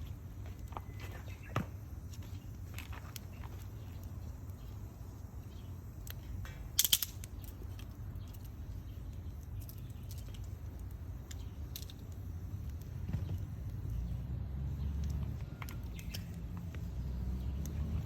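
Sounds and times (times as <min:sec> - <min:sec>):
bonfire crackling: 0:00.0 - 0:18.0.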